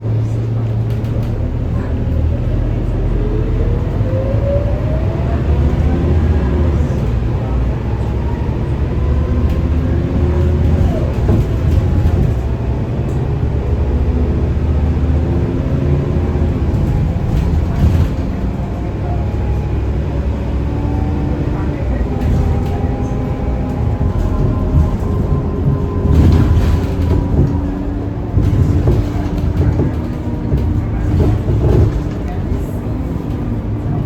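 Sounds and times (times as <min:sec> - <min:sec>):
bus engine whine accelerating: 0:00.0 - 0:34.0.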